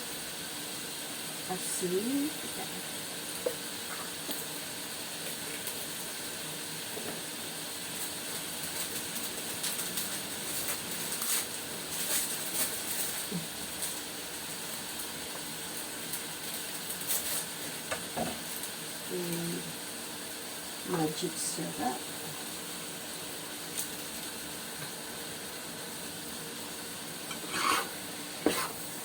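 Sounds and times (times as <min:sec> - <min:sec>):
meat sizzling in hot oil: 0:00.0 - 0:29.0.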